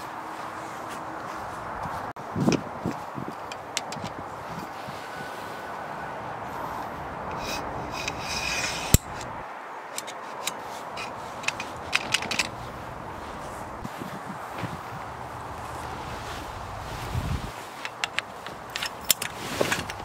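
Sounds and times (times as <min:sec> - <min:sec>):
tent pole clicking: 0:02.4 - 0:05.8, 0:06.6 - 0:13.9, 0:14.5 - 0:20.0
metal tent poles scraping: 0:02.4 - 0:20.0.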